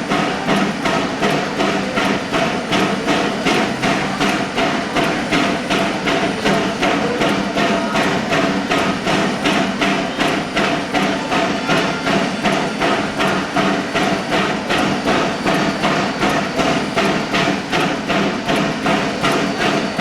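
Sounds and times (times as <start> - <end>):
steady hum: 0.0 - 20.0
steam locomotive knocking: 0.0 - 20.0.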